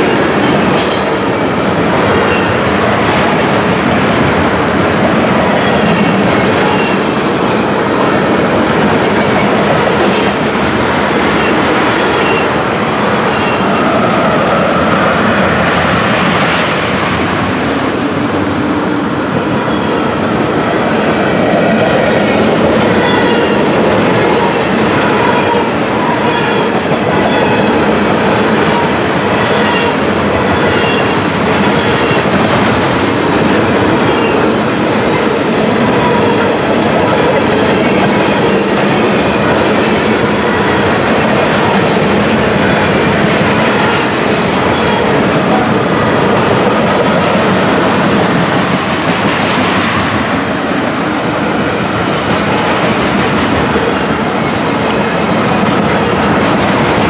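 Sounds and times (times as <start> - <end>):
rail clicks: 0.0 - 57.0
train wheels rumbling on rail: 0.0 - 57.0.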